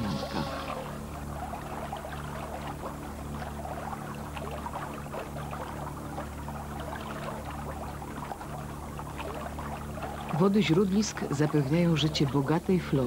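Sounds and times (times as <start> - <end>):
low hum: 0.0 - 13.0
stream trickling and gurgling: 0.0 - 13.0.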